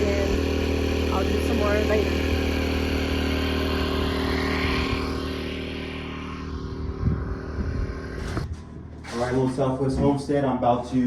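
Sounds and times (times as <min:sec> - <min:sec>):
portable generator running: 0:00.0 - 0:10.8.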